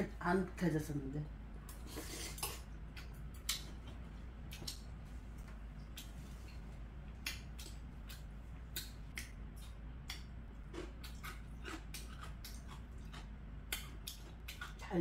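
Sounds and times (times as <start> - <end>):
faint low hum: 0.0 - 15.0
person chewing and lip smacking: 1.6 - 14.9.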